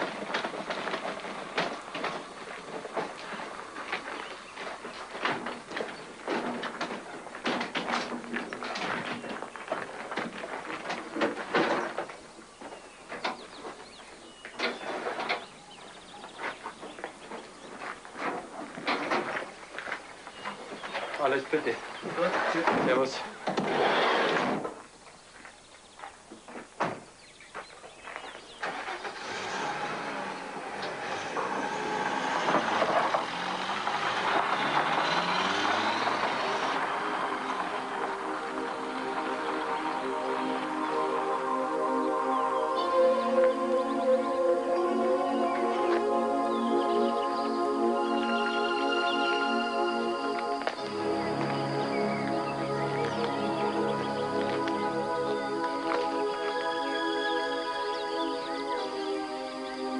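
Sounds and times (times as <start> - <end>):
birds chirping faintly: 0.0 - 23.6, 24.6 - 59.9
van engine starting and driving away: 0.0 - 24.8, 28.2 - 59.9.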